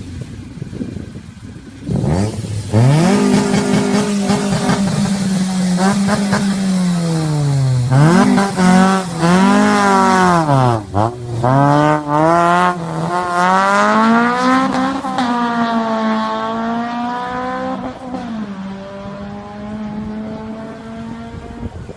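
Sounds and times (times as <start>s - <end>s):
motorcycle exhaust accelerating: 0.0s - 21.9s.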